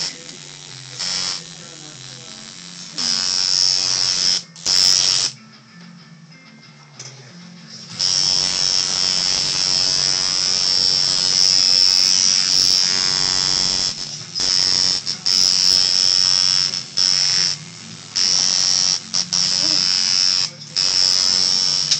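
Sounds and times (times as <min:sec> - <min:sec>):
tattoo machine buzzing: 0:00.0 - 0:05.4, 0:07.9 - 0:21.9.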